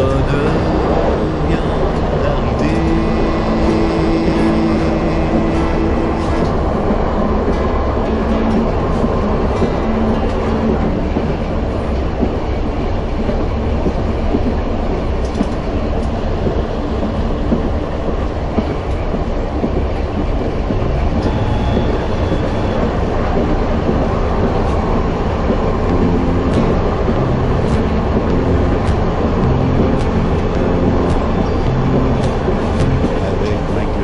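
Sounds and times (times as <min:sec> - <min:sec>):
train rumbling along track: 0:00.0 - 0:34.0.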